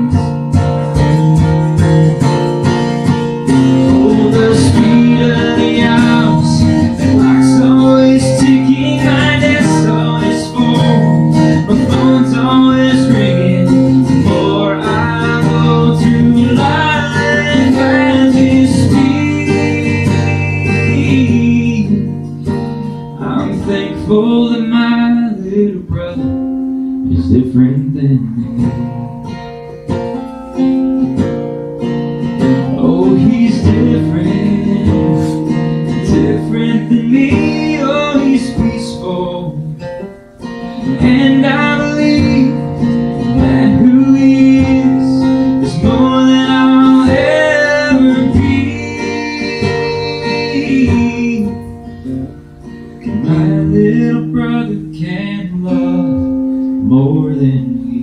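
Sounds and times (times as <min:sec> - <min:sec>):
man singing: 0:00.0 - 0:29.4, 0:32.4 - 0:51.9, 0:53.0 - 0:58.0
acoustic guitar strummed: 0:00.0 - 0:58.0.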